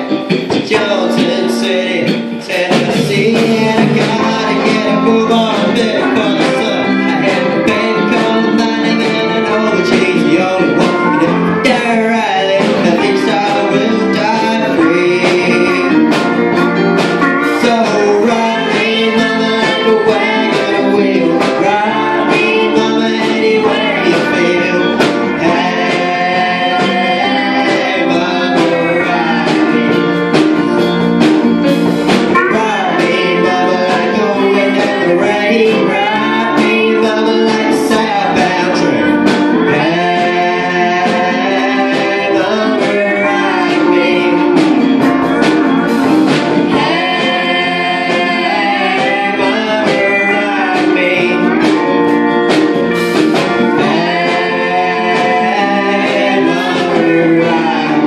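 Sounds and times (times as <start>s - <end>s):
man singing: 0.0s - 31.3s, 32.2s - 58.0s
drums: 0.0s - 58.0s
electric guitars: 0.0s - 58.0s.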